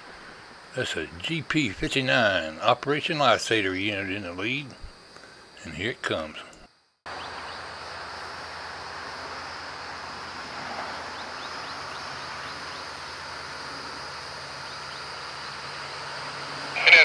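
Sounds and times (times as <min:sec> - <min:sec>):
distant locomotive engines droning: 0:00.0 - 0:06.5, 0:07.1 - 0:17.0.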